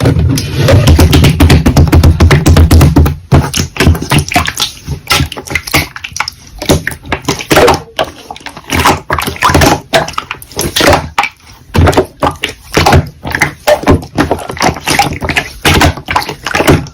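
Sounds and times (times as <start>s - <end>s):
slime squished by hand: 0.3s - 16.9s.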